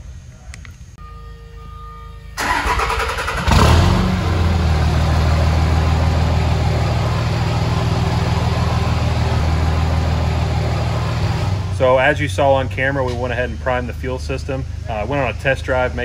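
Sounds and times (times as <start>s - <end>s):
diesel engine starting and idling: 2.4s - 16.0s.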